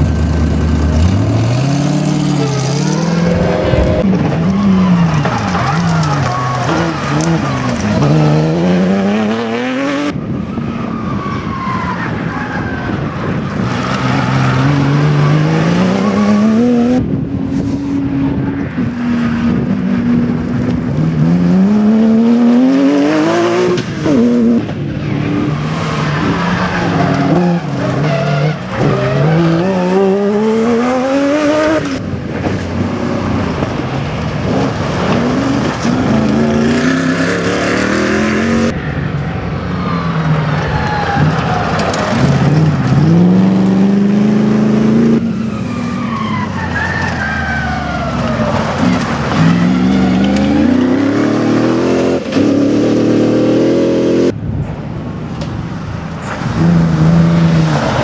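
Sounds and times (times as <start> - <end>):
rally car engines revving: 0.0 - 54.4, 55.4 - 58.0.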